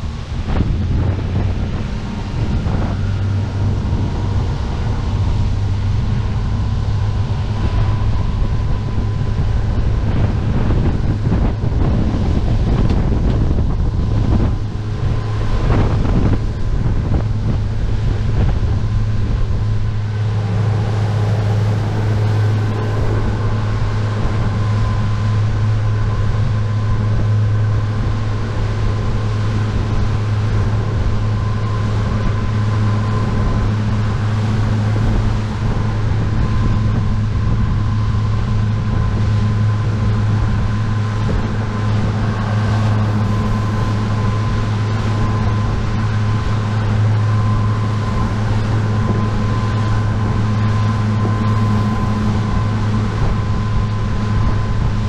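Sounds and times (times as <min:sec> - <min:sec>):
boat engine droning: 0:00.0 - 0:55.0
wind buffeting microphone: 0:00.0 - 0:55.0.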